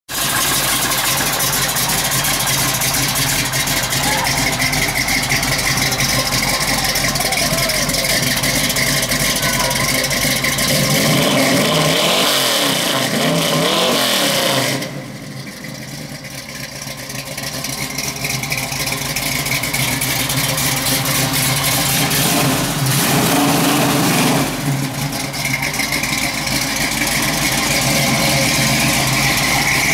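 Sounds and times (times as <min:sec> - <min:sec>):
vee eight engine idling and revving: 0:00.1 - 0:29.9.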